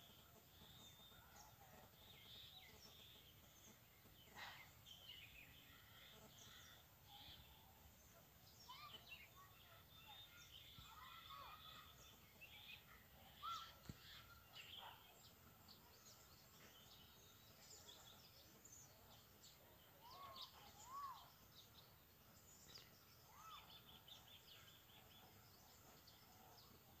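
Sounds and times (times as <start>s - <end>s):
bird rise-and-fall calls: 0.0s - 17.1s, 20.0s - 21.8s, 22.6s - 27.0s
faint birds chirping: 0.0s - 27.0s.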